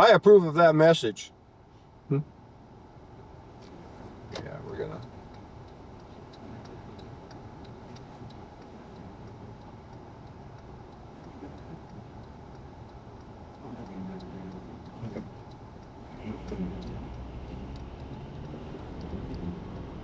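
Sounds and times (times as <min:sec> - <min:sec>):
car road and engine noise: 0:00.0 - 0:20.0
faint regular ticking: 0:03.6 - 0:20.0.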